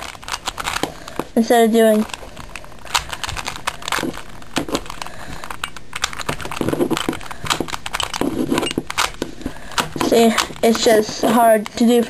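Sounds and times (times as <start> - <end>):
plastic puzzle cube clicking: 0.0 - 1.2, 2.0 - 11.0.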